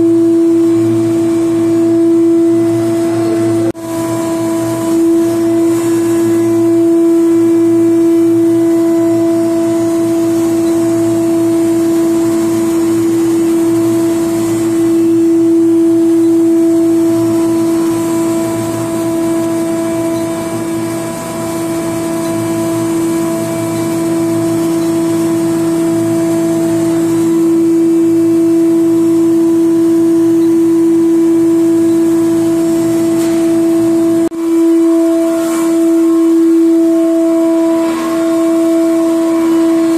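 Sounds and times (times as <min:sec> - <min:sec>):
induction furnace electrical hum: 0:00.0 - 0:39.9.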